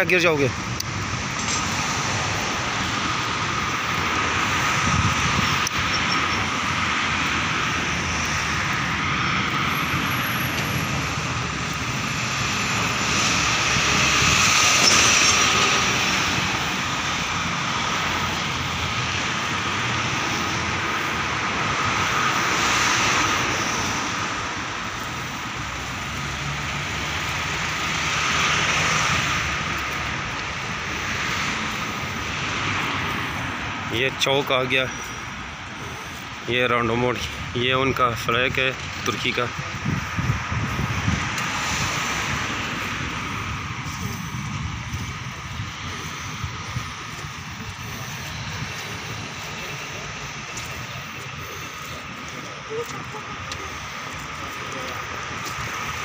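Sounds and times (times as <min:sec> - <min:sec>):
hum of cars: 0:00.0 - 0:56.0
vehicles passing: 0:00.0 - 0:56.0.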